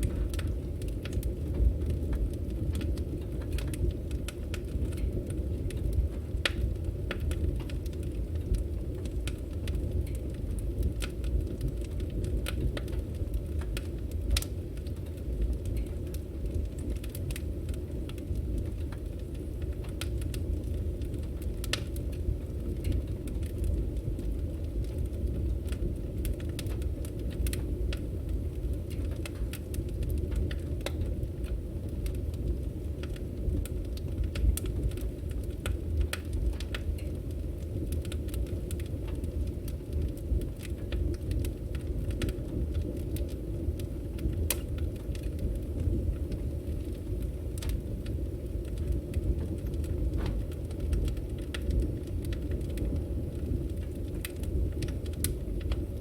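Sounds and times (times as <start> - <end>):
firewood burning with crackles: 0.0 - 56.0.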